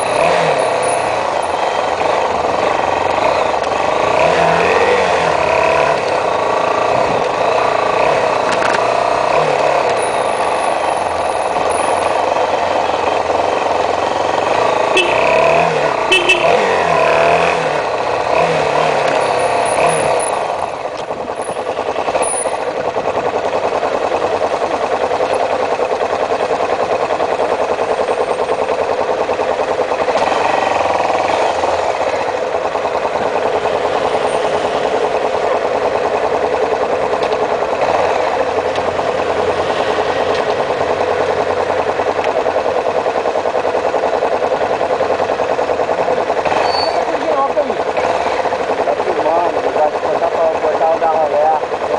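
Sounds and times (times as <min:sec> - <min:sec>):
motorcycle engine running: 0:00.0 - 0:51.9
street traffic: 0:00.0 - 0:51.9.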